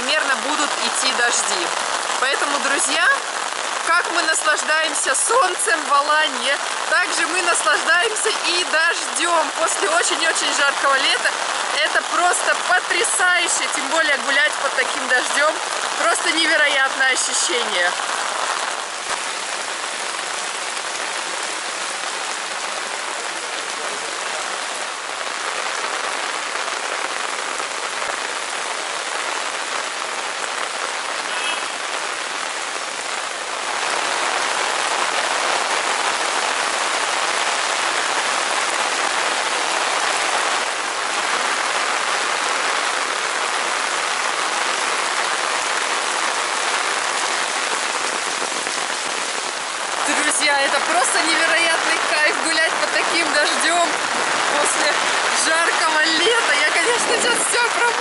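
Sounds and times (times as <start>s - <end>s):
heavy rain on street and cars: 0.0s - 58.0s.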